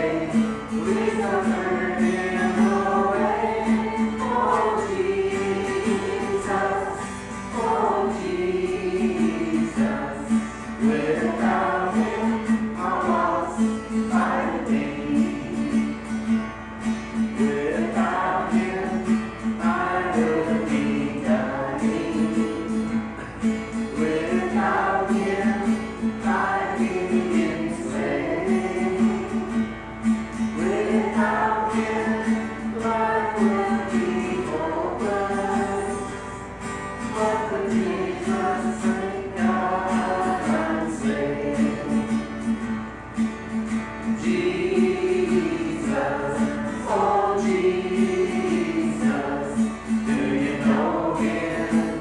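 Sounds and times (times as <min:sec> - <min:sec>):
voices singing gospel music: 0:00.0 - 0:52.0.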